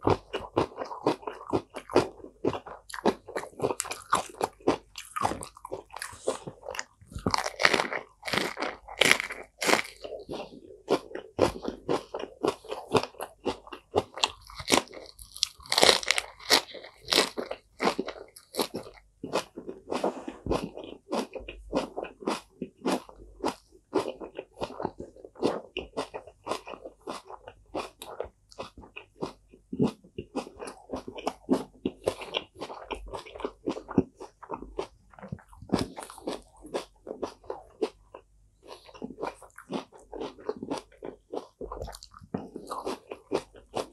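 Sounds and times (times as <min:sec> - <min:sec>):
chewing crisp lettuce: 0:00.0 - 0:43.9.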